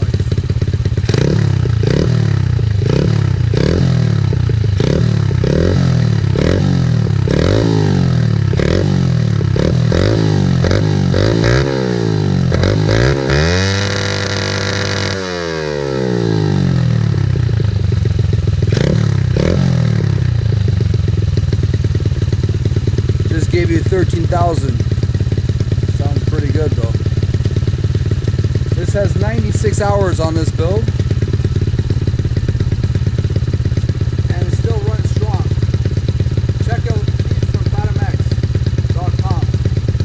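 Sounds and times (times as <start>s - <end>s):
single-cylinder engine revving: 0.0s - 40.0s.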